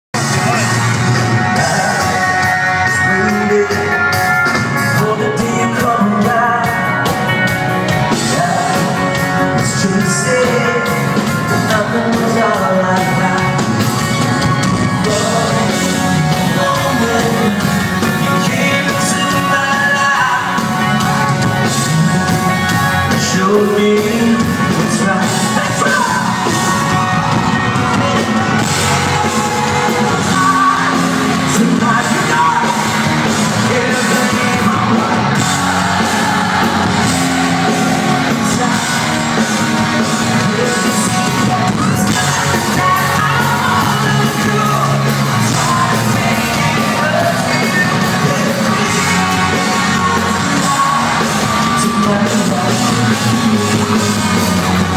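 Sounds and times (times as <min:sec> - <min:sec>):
live rock band playing: 0:00.1 - 0:54.9
male lead singer: 0:00.1 - 0:54.9.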